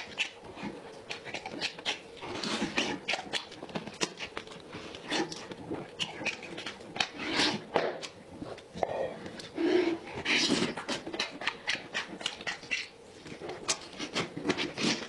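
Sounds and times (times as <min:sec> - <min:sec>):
man chewing and lip-smacking: 0:00.0 - 0:15.0.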